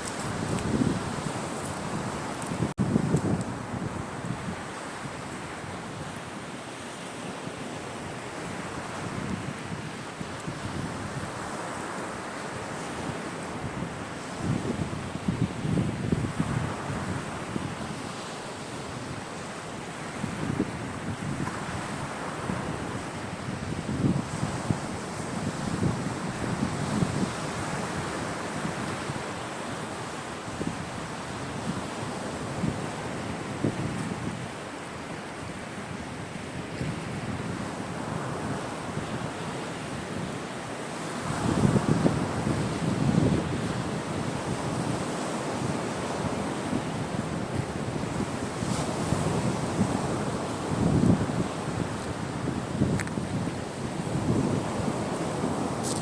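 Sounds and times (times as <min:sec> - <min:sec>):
wind buffeting microphone: 0:00.0 - 0:11.7, 0:12.5 - 0:56.0
sea surf washing on shore: 0:00.0 - 0:56.0.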